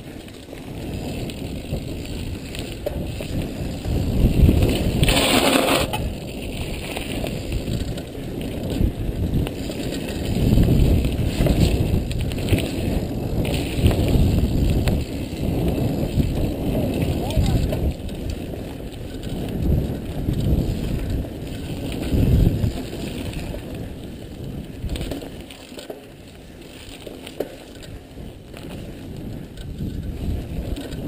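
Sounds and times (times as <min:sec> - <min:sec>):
bike rattling over bumps: 0:00.0 - 0:31.0
bike tyres crunching on gravel: 0:00.0 - 0:31.0.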